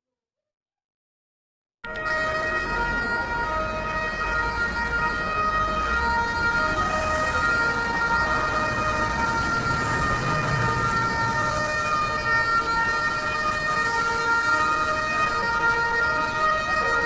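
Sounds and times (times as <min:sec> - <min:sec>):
two-tone ambulance siren: 0:01.8 - 0:17.0.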